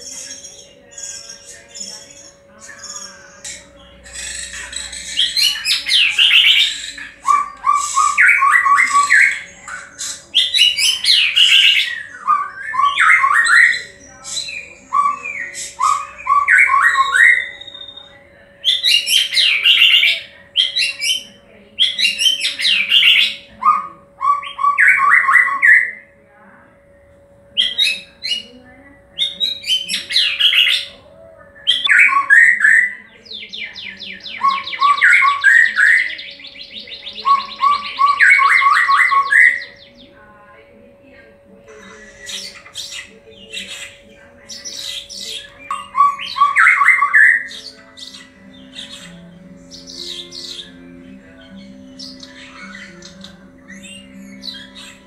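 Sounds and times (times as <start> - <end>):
bird singing whistled phrases: 0.0 - 26.0, 31.6 - 40.0, 42.2 - 50.8, 51.5 - 55.0.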